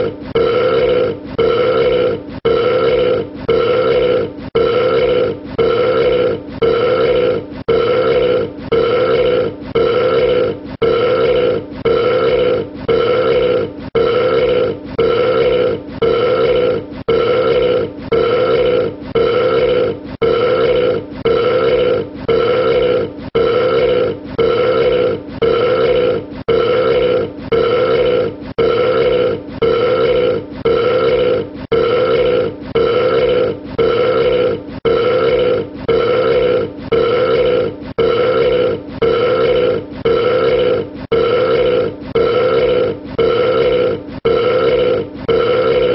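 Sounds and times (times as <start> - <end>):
man burping: 0.0 - 45.9.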